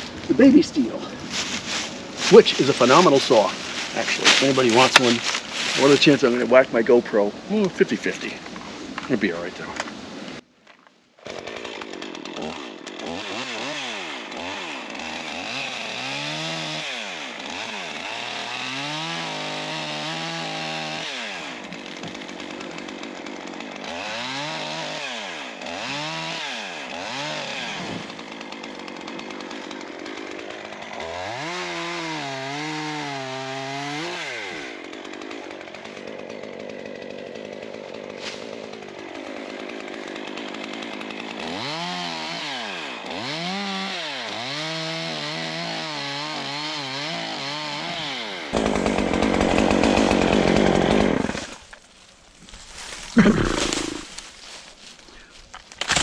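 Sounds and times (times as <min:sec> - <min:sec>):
chainsaw cutting through tree trunk: 0:00.0 - 0:08.5, 0:11.2 - 0:56.0.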